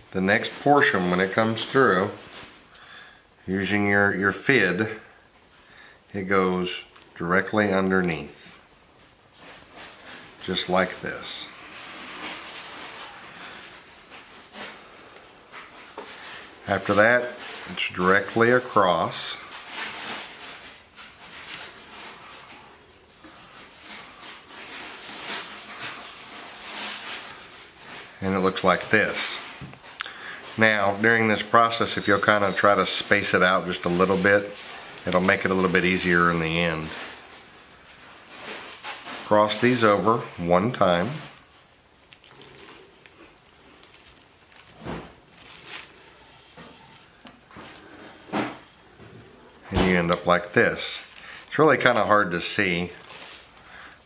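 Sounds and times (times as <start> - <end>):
cord rubbing and rustling: 0.2 - 2.8, 6.2 - 54.0.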